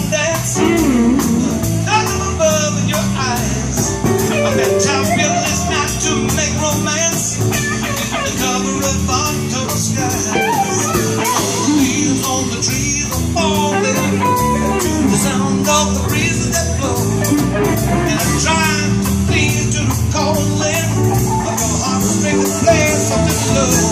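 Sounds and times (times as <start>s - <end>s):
live rock band playing: 0.0s - 23.9s
man singing lead: 0.0s - 23.9s.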